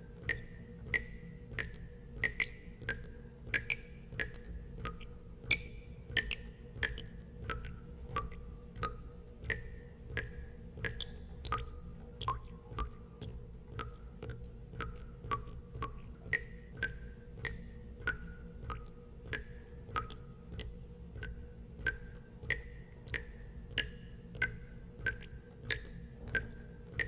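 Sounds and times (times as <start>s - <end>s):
water drops plinking into water: 0.2s - 27.0s.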